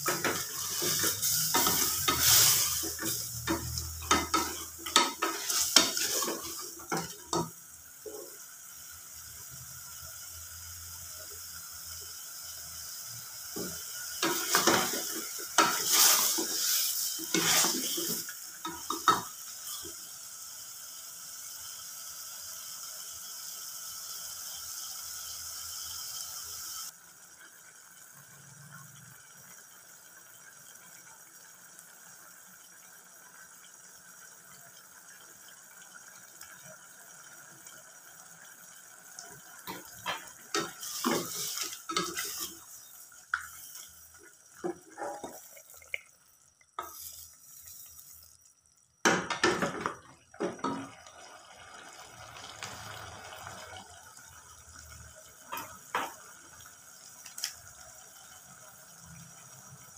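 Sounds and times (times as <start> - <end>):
chicken sizzling in a pot: 0.0 - 59.9.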